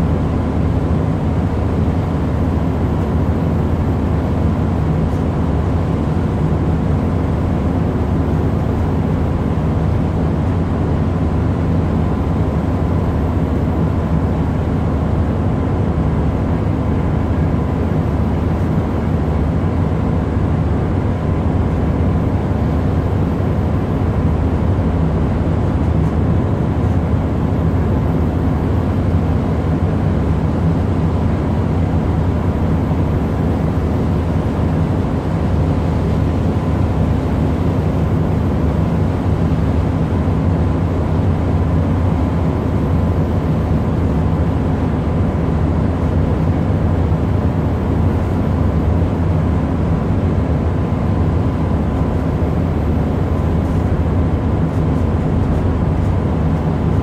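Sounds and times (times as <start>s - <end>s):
ship engine drone: 0.0s - 57.0s.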